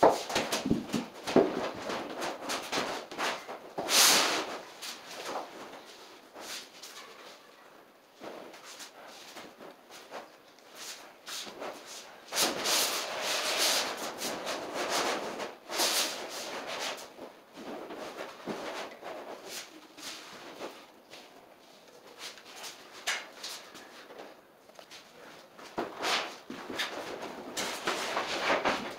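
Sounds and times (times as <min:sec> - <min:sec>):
clicks and scuffs: 0:00.0 - 0:07.5, 0:08.2 - 0:28.9
vinyl flooring rustling and scraping: 0:00.0 - 0:28.9.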